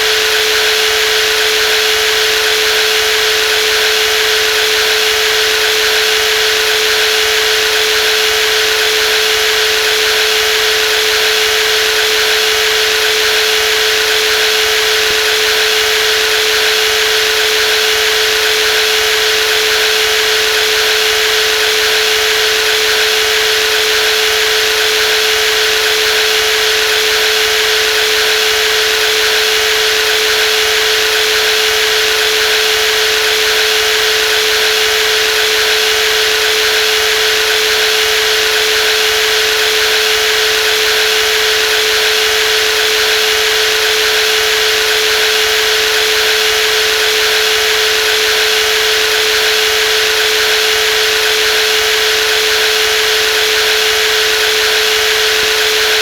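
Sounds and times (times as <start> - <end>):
jigsaw running: 0.0 - 56.0.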